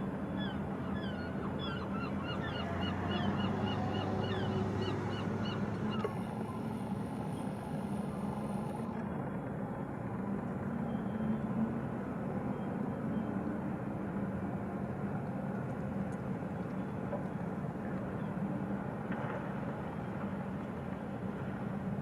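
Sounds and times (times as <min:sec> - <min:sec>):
outdoor noise: 0:00.0 - 0:22.0
ship engines droning: 0:00.0 - 0:22.0.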